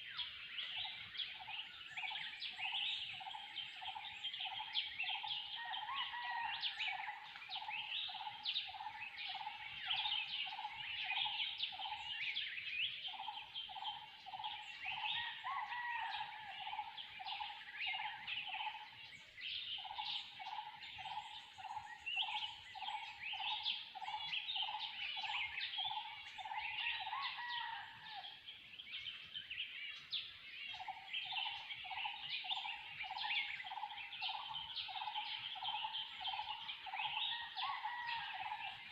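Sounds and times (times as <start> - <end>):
high chirping of many birds: 0.0 - 38.9.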